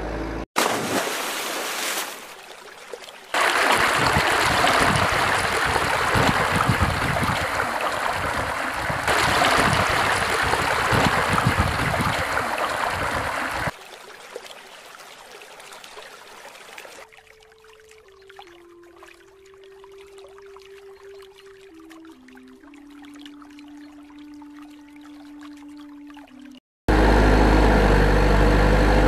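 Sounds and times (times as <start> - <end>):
rushing river water: 0.6 - 26.6
water lapping: 0.6 - 26.6.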